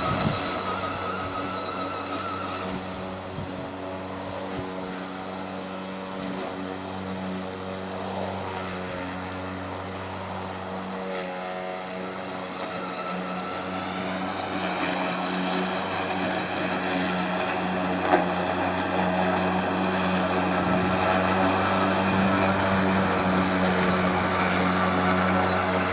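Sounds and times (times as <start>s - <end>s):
electric lawn mower humming: 0.0s - 25.9s.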